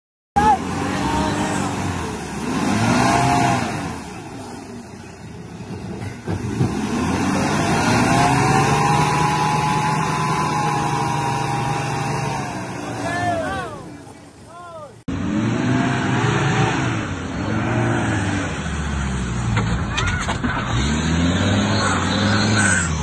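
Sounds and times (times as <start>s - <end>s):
pickup truck engine revving: 0.4s - 14.0s, 15.1s - 19.7s, 20.4s - 23.0s.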